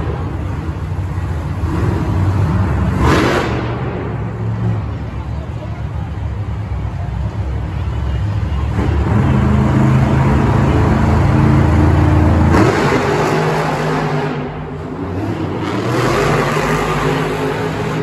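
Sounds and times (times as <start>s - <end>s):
monster truck engines running loud: 0.0s - 18.0s.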